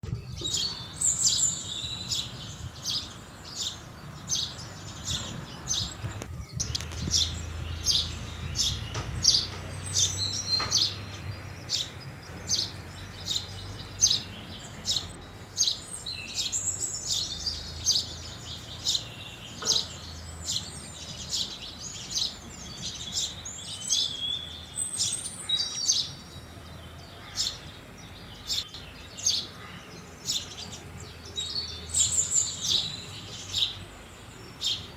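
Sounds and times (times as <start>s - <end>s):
sparrows chirping: 0.0s - 34.9s.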